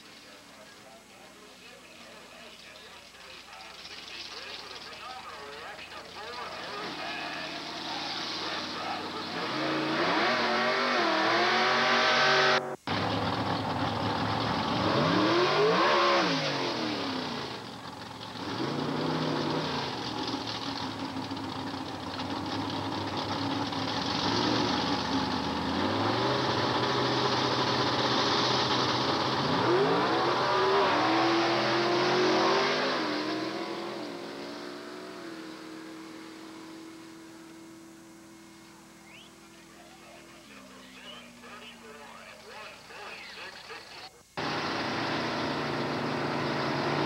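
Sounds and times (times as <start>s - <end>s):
race car engines revving: 2.0s - 47.0s.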